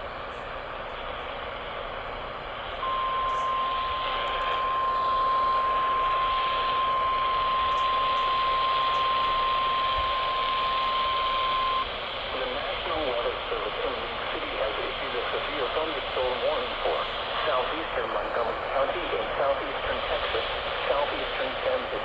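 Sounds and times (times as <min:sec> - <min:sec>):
radio static hiss: 0:00.1 - 0:22.0.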